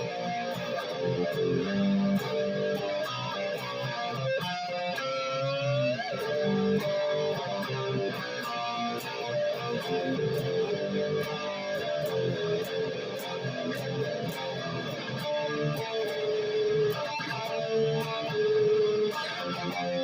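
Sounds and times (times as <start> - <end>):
electric guitar playing: 0.0 - 20.0.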